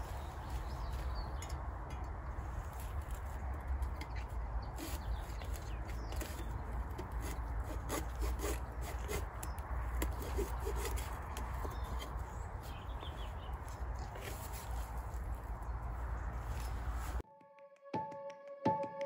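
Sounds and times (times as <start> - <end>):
rustling vines: 0.0 - 17.2.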